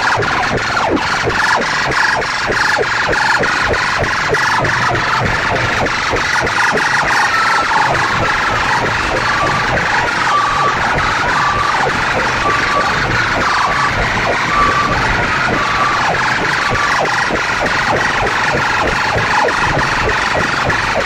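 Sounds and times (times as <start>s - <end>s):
distorted electronic music: 0.0s - 21.0s.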